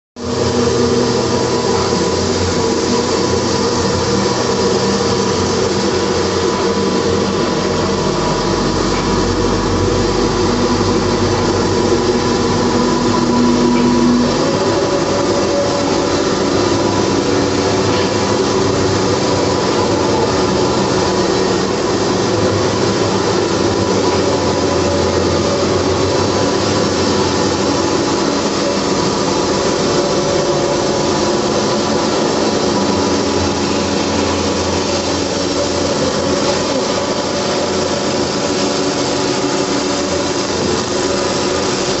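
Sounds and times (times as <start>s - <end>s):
quilting machine whirring and rattling: 0.2s - 42.0s.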